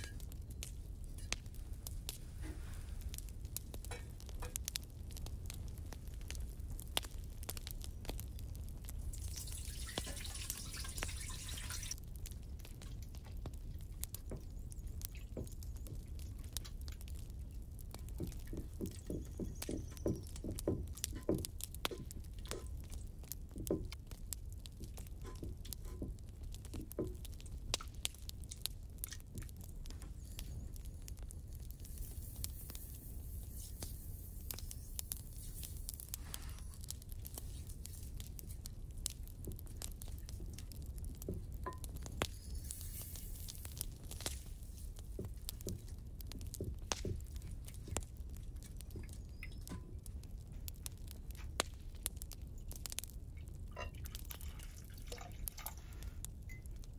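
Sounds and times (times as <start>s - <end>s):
soft wet squishes and drips: 0.0s - 56.9s.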